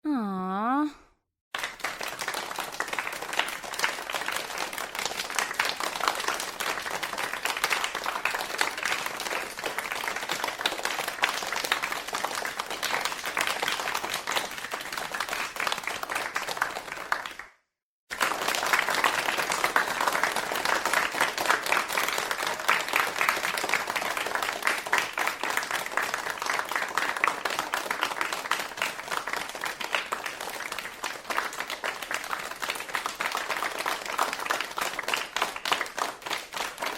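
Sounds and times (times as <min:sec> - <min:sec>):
crowd applauding: 0:01.6 - 0:17.5, 0:18.1 - 0:36.9.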